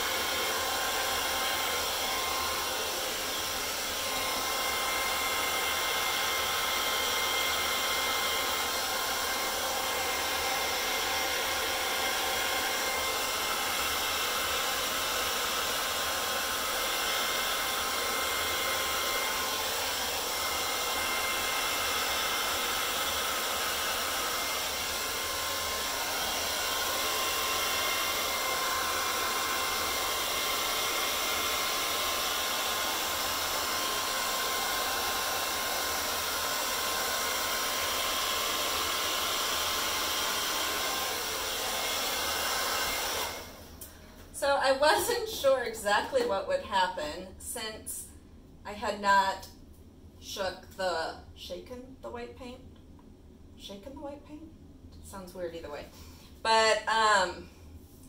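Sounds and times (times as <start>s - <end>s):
hair dryer running: 0.0s - 47.8s.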